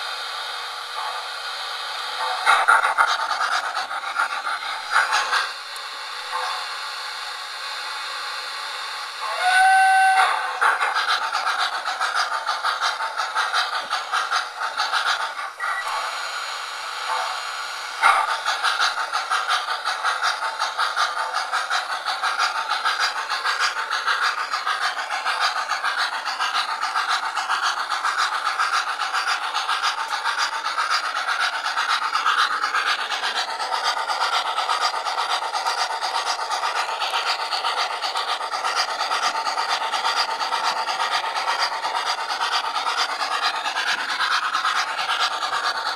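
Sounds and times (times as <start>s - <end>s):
model steam locomotive running: 0.0s - 45.9s.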